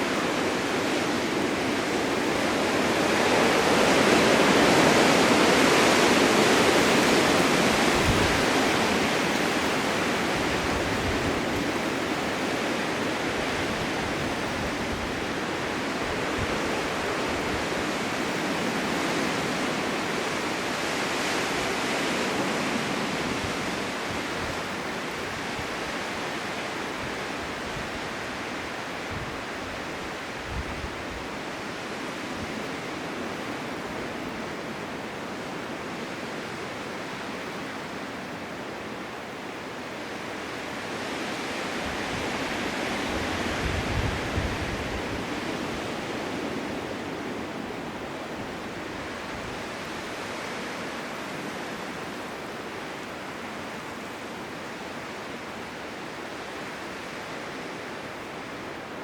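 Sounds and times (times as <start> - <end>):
blizzard wind gusting: 0.0 - 59.0.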